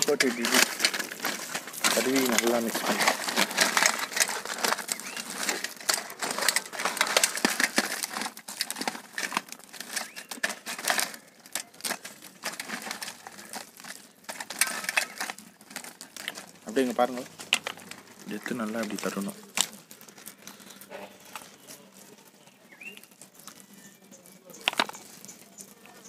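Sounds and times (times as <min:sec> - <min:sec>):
crab shells clattering on metal: 0:00.0 - 0:26.0
rustling of spice coating: 0:00.0 - 0:26.0.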